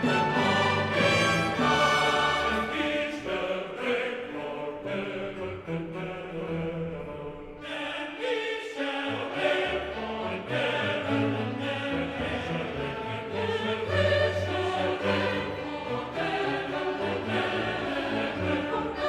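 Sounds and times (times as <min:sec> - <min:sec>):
choral singing: 0:00.0 - 0:19.0.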